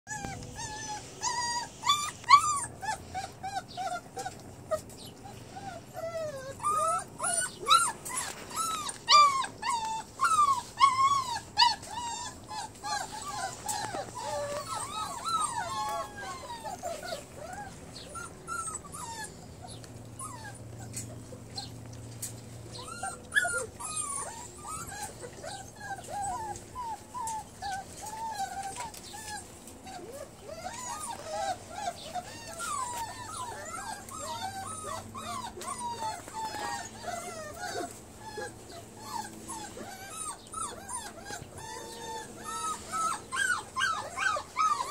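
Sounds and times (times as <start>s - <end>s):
puppies whimpering and whining: 0.1s - 44.9s.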